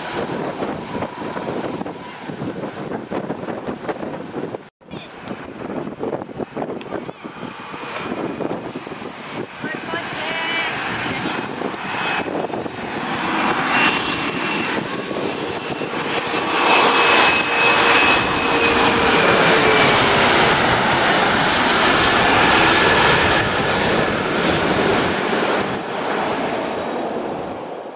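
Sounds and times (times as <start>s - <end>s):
jet plane flying overhead: 0.0s - 27.9s
whining jet engine tones: 0.0s - 27.9s.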